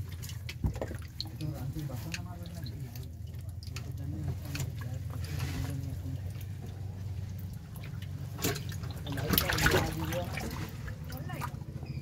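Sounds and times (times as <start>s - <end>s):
water dripping and sloshing: 0.0s - 11.9s.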